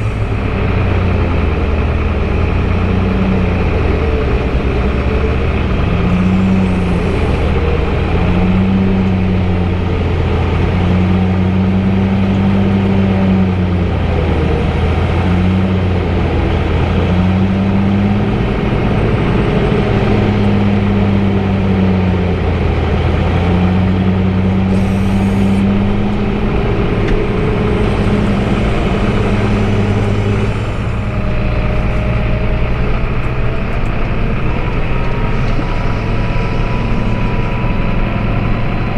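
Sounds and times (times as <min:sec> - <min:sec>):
deep wavering hum: 0:00.0 - 0:38.9
heavy diesel machinery grinding hay: 0:00.0 - 0:38.9.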